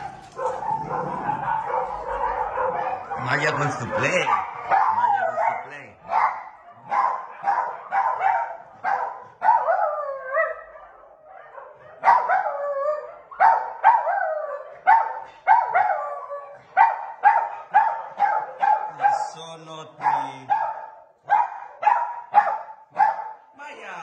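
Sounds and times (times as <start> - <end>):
dog barking high yappy barks: 0.0 - 23.6.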